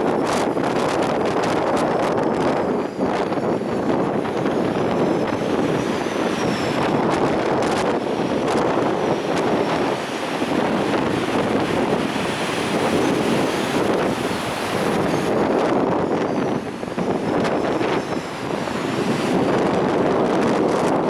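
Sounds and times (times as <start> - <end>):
storm wind on microphone: 0.0 - 21.0
stormy sea surf: 0.0 - 21.0.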